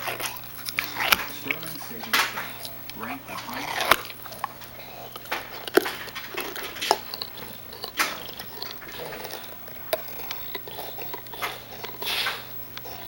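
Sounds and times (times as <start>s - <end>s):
dog snuffling breaths: 0.0s - 13.0s
dog teeth clicking on rubber toy: 0.0s - 13.0s.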